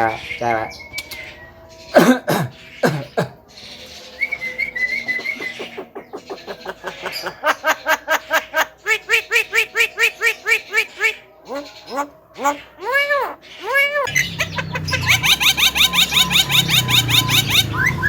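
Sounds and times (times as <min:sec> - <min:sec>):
bird calling: 0:00.0 - 0:18.0
fast repeated bird notes: 0:01.9 - 0:18.0.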